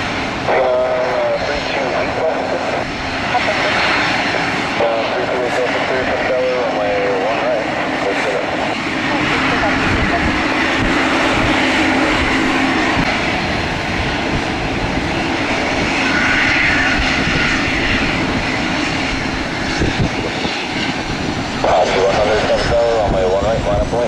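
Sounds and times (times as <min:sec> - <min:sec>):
jet engines running: 0:00.0 - 0:24.0
wind buffeting microphone: 0:00.0 - 0:24.0.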